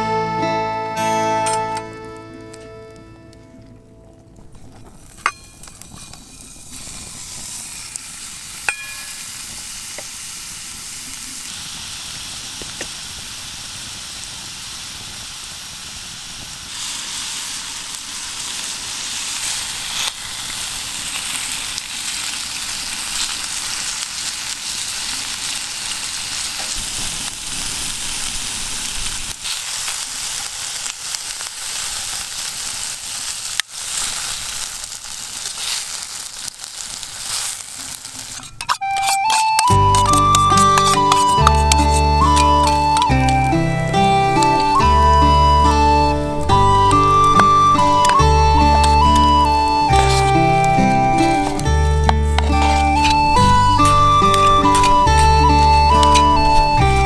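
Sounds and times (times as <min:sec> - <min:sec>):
food sizzling in a pan: 0:01.3 - 0:57.0.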